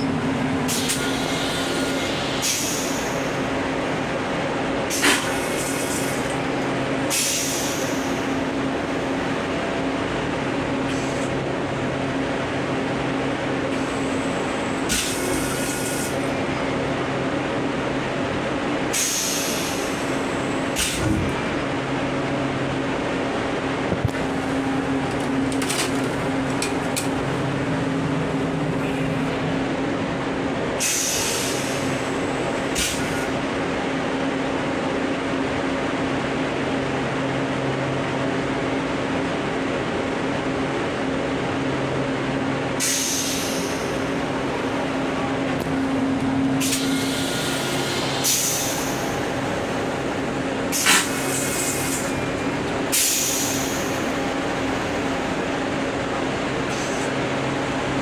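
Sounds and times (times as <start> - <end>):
electric railcar running hum: 0.0 - 58.0.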